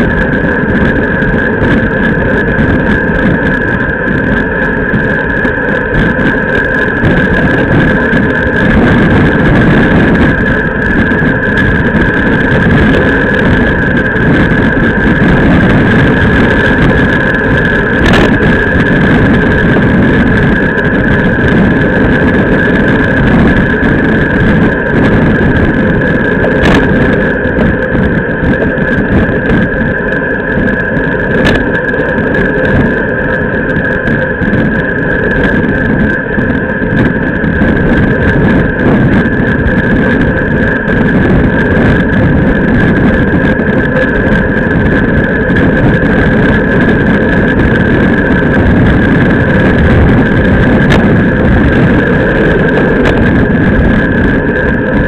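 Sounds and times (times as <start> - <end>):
road and tyre rumble: 0.0 - 55.0
steady high whine: 0.0 - 55.0
wind rushing over microphone: 0.0 - 55.0.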